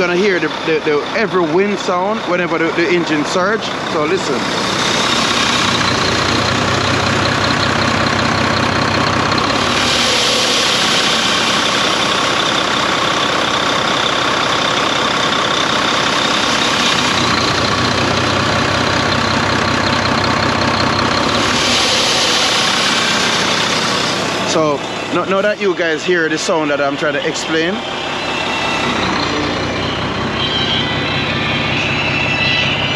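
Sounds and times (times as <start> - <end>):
diesel engine idling and surging: 0.0 - 32.9.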